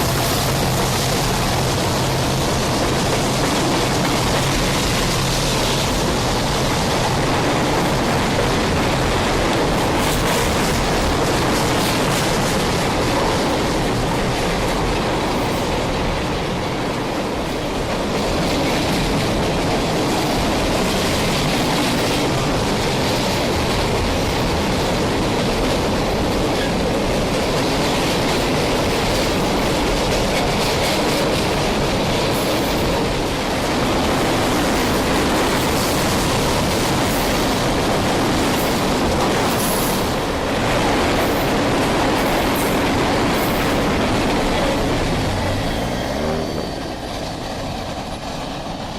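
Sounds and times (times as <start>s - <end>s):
freight train wheels rolling: 0.0s - 48.9s.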